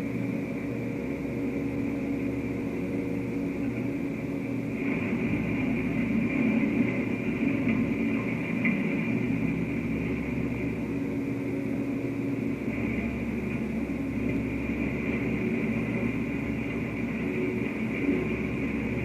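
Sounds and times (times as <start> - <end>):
heavy machinery engine drone: 0.0 - 19.0.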